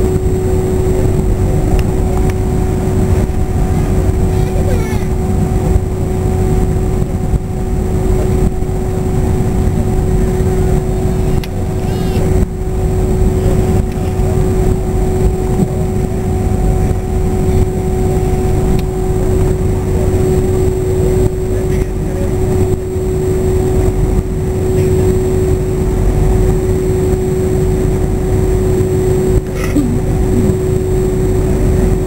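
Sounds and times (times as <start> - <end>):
aircraft cabin rumble and hiss: 0.0 - 32.0
constant hum tone: 0.0 - 32.0.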